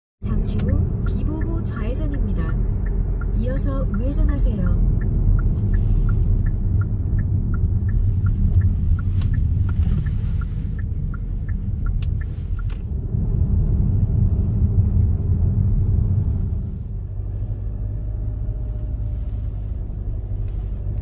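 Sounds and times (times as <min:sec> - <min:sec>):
car road and engine rumble: 0:00.2 - 0:21.0
turn signal ticking: 0:00.2 - 0:21.0.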